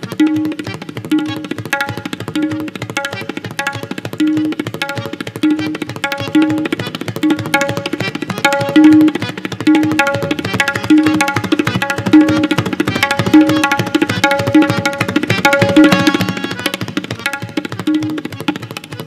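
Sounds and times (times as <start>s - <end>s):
harmonium held notes: 0.0s - 19.0s
tabla fast strokes: 0.0s - 19.0s.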